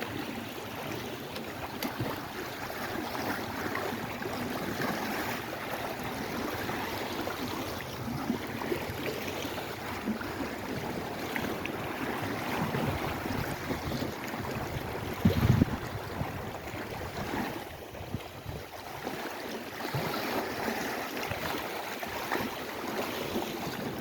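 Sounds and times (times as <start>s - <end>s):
small waves lapping: 0.0s - 24.0s.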